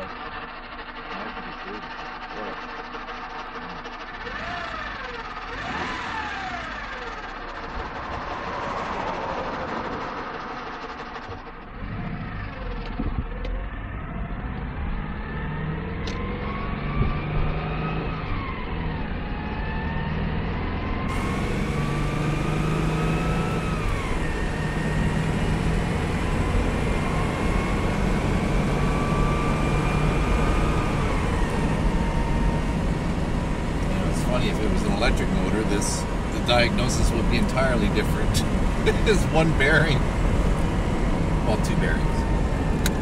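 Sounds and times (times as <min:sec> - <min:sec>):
car engine accelerating with whine: 0:00.0 - 0:43.0.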